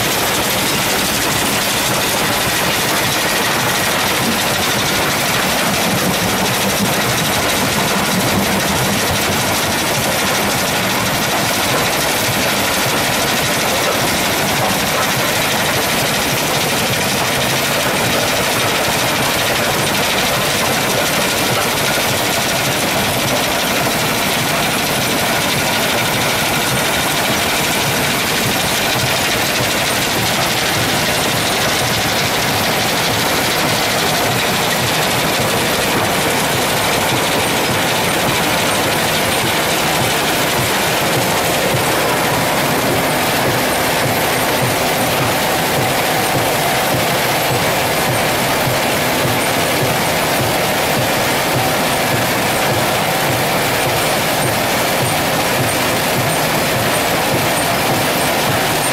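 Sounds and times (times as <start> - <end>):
machinery running with hiss: 0.0 - 58.9.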